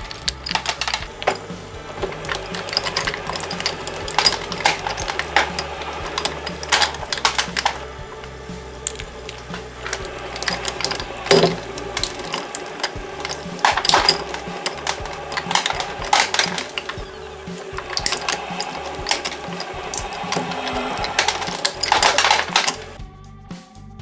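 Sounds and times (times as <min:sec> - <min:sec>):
plastic cracking in shredder: 0:00.0 - 0:23.0.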